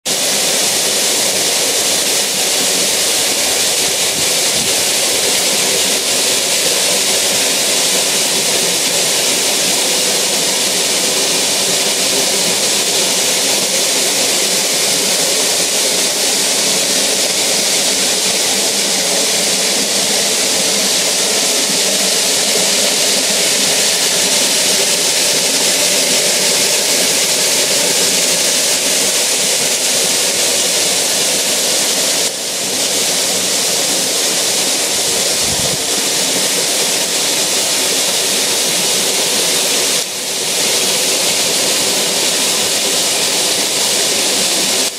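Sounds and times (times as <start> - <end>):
waterfall rushing: 0.1 - 44.9.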